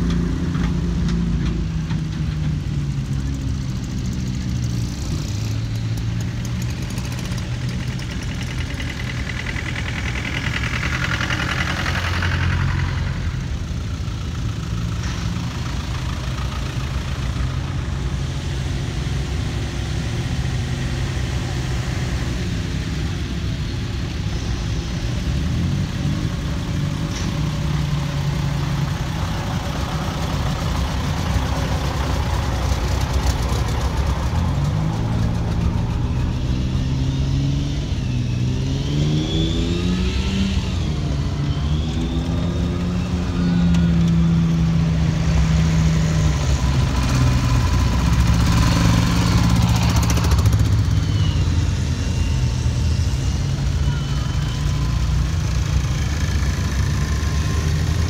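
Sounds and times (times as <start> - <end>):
military vehicle engines passing: 0.0 - 58.0.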